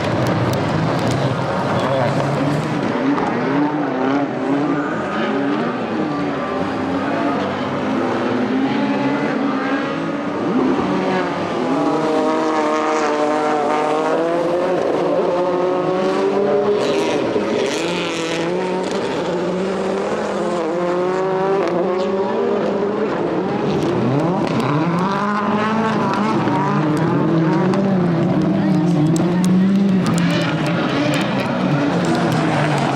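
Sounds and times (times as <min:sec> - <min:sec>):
racing car engines: 0:00.0 - 0:32.9.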